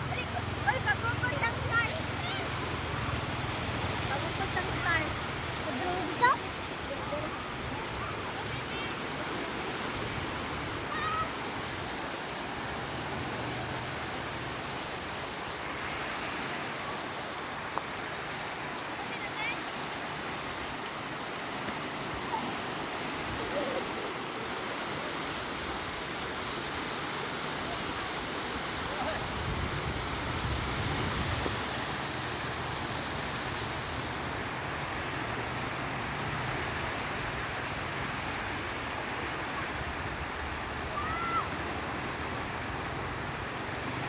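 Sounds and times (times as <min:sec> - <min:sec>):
sea surf rushing: 0:00.0 - 0:44.0.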